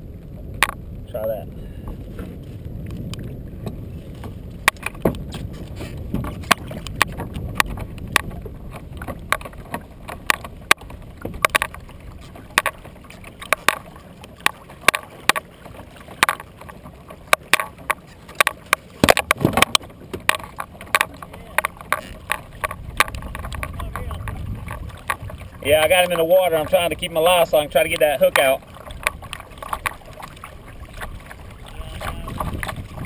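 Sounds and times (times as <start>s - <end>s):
low wind rumble: 0.0s - 33.0s
waves slapping kayak hull: 0.0s - 33.0s.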